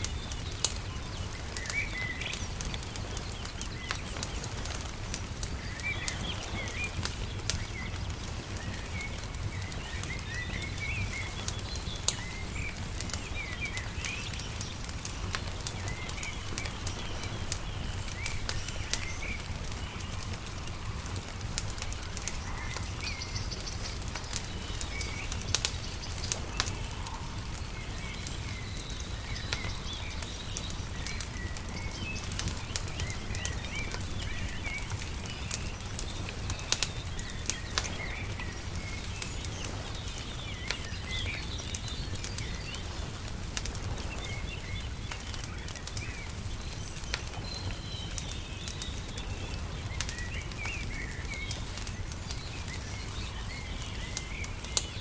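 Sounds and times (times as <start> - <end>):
small birds chirping: 0.0 - 55.0
wood fire crackling: 0.0 - 55.0.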